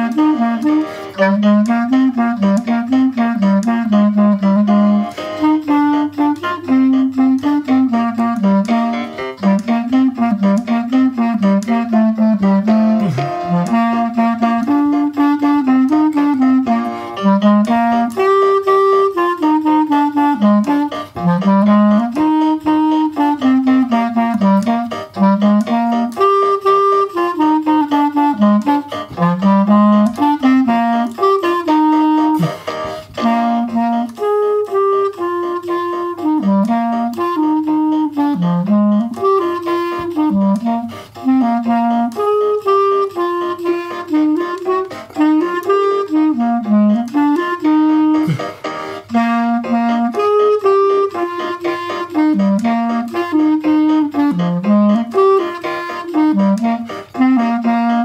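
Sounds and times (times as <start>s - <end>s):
wind band playing a march: 0.0s - 58.0s.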